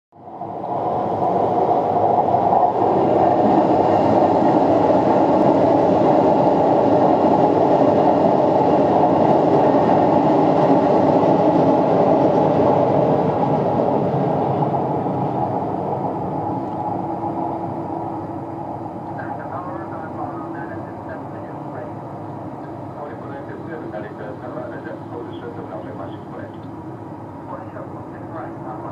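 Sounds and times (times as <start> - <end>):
jet engines roaring: 0.6 - 28.9.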